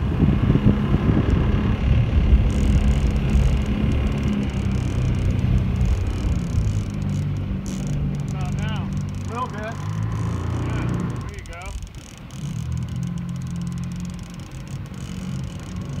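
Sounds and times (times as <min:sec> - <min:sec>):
boat motor running: 0:00.0 - 0:16.0
water splashing against hull: 0:00.0 - 0:16.0
wind buffeting microphone: 0:00.0 - 0:16.0.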